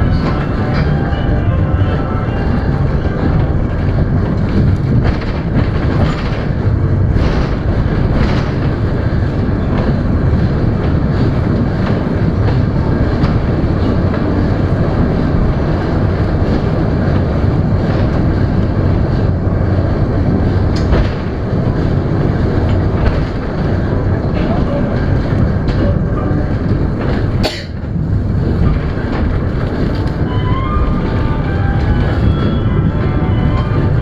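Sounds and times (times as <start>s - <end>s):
wheels rumbling on track: 0.0s - 34.0s.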